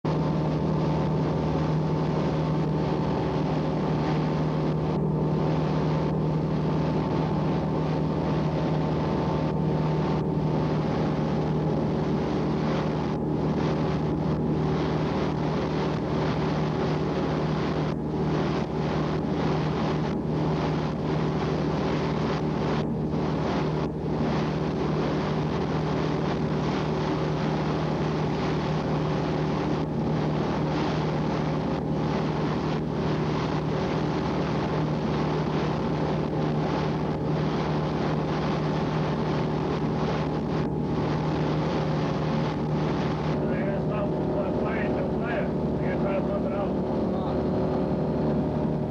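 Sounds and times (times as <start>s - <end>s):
boat engine droning: 0.0s - 48.9s
wind noise on microphone: 0.0s - 48.9s.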